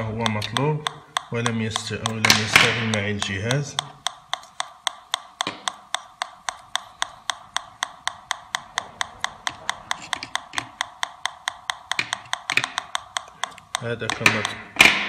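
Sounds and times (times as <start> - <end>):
metal detector ticking: 0.0 - 15.0.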